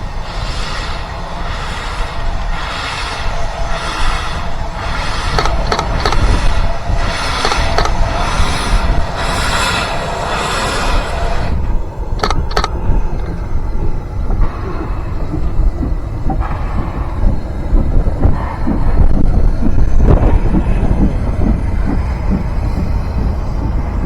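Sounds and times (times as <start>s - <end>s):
steam train rumbling past: 0.0s - 24.0s.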